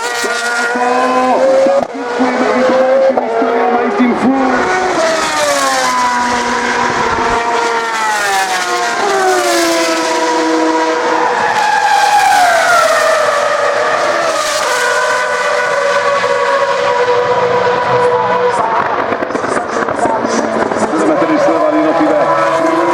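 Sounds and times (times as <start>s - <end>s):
race car engines at high revs: 0.0s - 22.9s.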